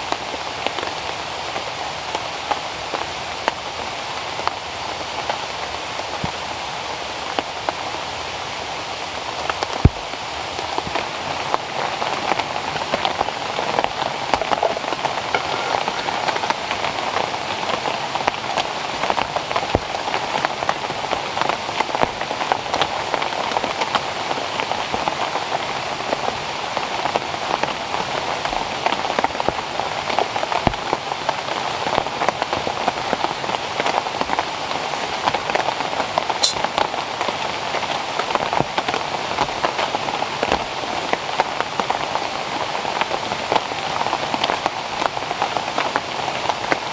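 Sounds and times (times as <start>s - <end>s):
heavy rain on vegetation: 0.0s - 46.9s.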